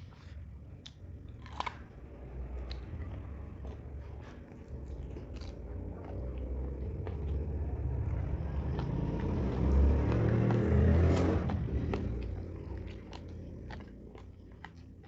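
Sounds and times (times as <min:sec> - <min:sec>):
chewing clicks: 0:00.0 - 0:15.0
vehicle engine rumble passing: 0:01.2 - 0:15.0.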